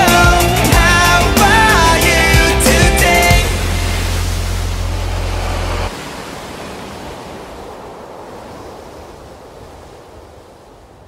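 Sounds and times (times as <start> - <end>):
ocean surf on rocky shore: 0.0 - 11.0.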